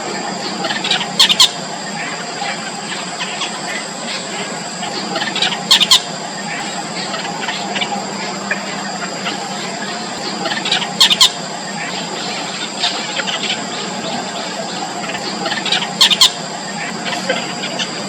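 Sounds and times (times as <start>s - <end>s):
nestlings cheeping: 0.2s - 18.0s.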